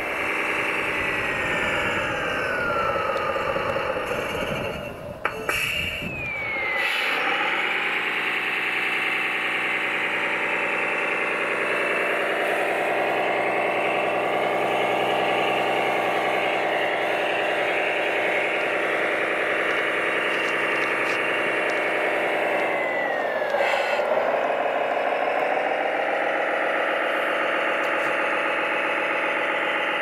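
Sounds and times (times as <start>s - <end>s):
high whine falling in pitch: 0.0s - 30.0s
model vehicle mechanical drone: 0.0s - 30.0s.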